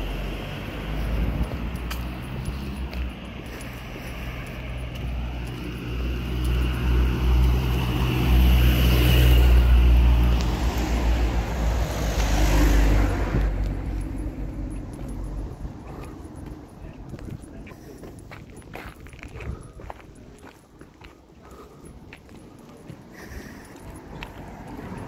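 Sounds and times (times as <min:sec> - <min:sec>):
motor vehicle passing: 0:00.0 - 0:18.6, 0:21.5 - 0:25.0.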